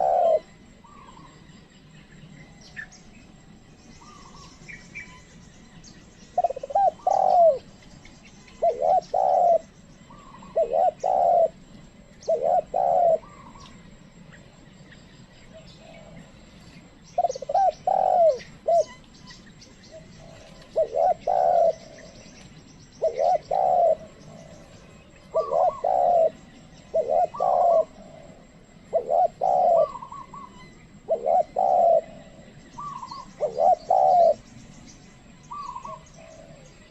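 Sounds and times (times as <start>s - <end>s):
dove cooing: 0.0s - 1.4s, 4.0s - 14.6s, 15.5s - 36.9s.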